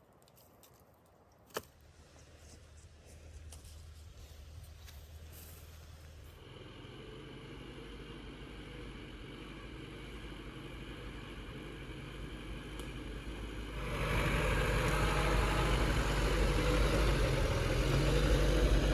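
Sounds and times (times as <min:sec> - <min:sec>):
engine running: 0:01.9 - 0:18.9.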